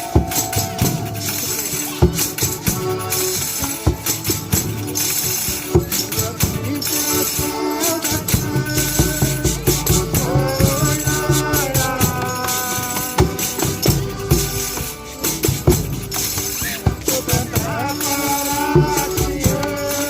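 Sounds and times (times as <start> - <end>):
held melody of voices: 0.0 - 20.0
tambourines jingling: 0.0 - 20.0.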